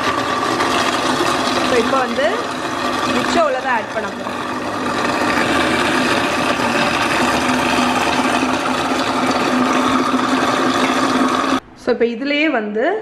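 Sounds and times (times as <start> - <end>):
blender motor running: 0.0 - 11.6.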